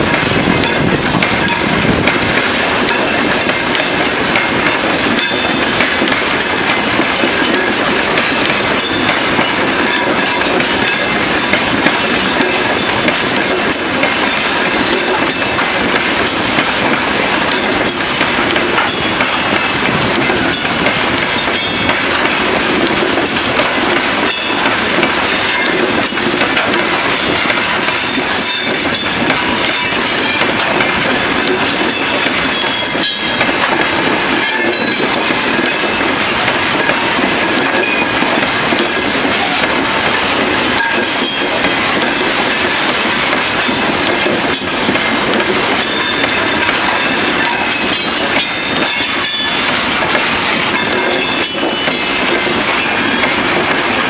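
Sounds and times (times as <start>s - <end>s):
train wheels rumbling on rail: 0.0s - 54.0s
wheels clicking over rail joints: 0.1s - 54.0s.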